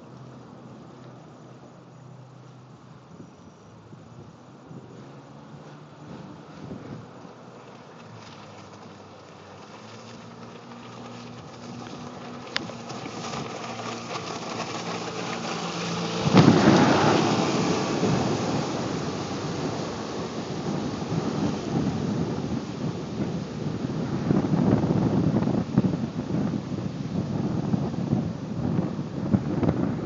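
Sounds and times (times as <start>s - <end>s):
outboard motor drone: 0.0s - 30.0s
rumbling rush of wind and water: 0.0s - 30.0s.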